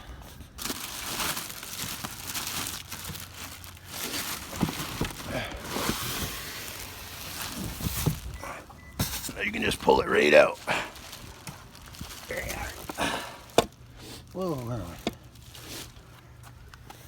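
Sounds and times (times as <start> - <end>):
packing material crinkling: 0.4 - 16.1.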